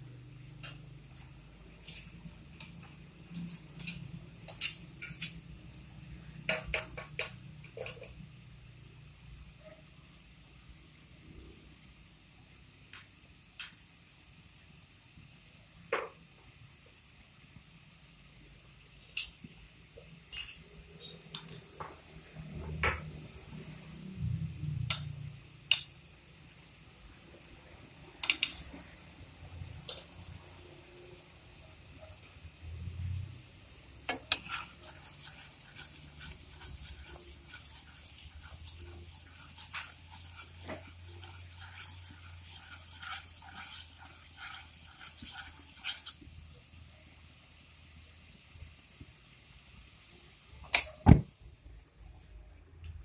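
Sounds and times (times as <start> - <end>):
liquid boiling in a pan: 0.0 - 51.2.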